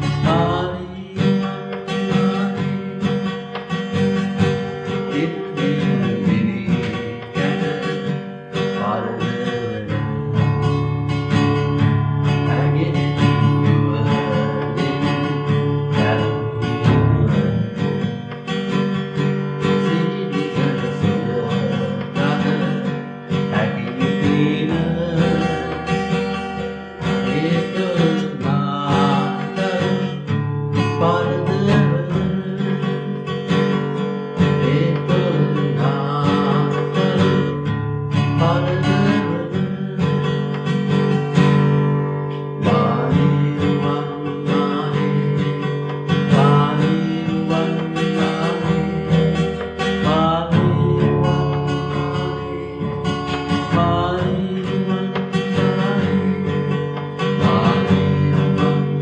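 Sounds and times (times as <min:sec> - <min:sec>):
man singing: 0:00.0 - 0:59.0
strummed acoustic guitar: 0:00.0 - 0:59.0.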